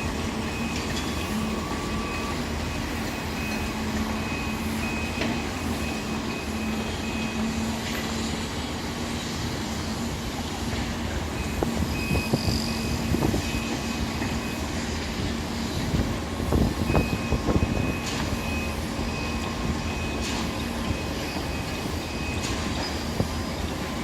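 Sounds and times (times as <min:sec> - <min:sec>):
heavy machinery running: 0:00.0 - 0:24.0.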